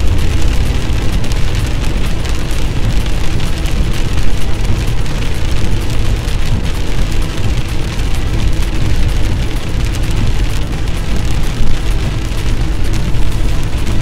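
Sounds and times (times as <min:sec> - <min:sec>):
heavy rain on car windshield: 0:00.0 - 0:14.0
road and wind noise: 0:00.0 - 0:14.0.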